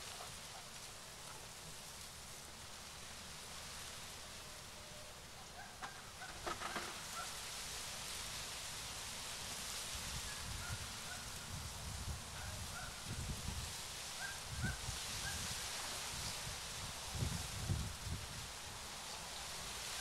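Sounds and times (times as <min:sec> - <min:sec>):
hiss of air and foliage: 0:00.0 - 0:20.0.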